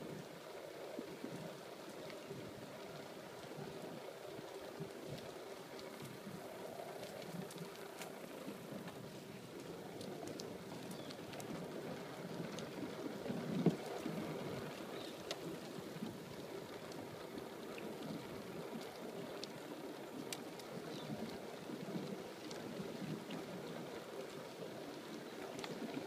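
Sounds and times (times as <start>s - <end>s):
bicycle rolling with rattles: 0.0s - 26.0s.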